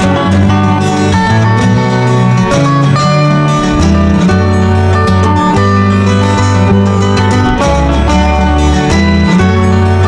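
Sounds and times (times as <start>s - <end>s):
instrumental music with held bass: 0.0s - 10.0s.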